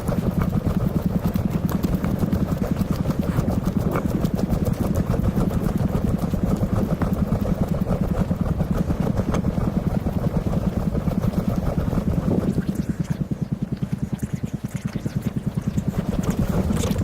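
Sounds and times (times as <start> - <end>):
engine running with rapid pulsing: 0.0 - 17.0.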